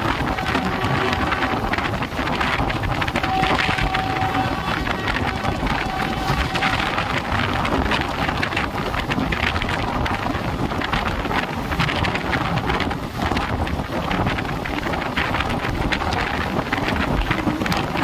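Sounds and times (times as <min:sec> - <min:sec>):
train wheels clattering on rails: 0:00.0 - 0:18.0
wind rush over microphone: 0:00.0 - 0:18.0.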